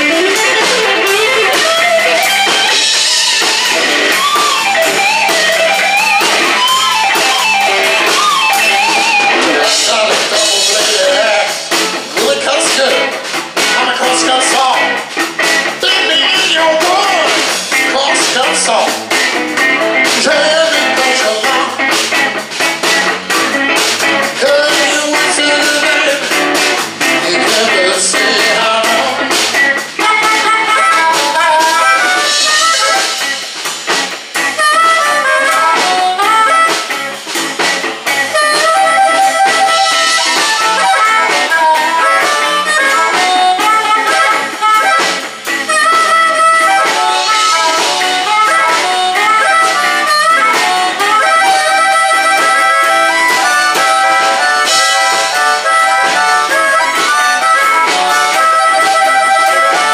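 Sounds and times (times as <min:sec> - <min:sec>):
bass: 0:00.0 - 0:59.9
blues harmonica solo: 0:00.0 - 0:59.9
drums: 0:00.0 - 0:59.9
electric guitar: 0:00.0 - 0:59.9.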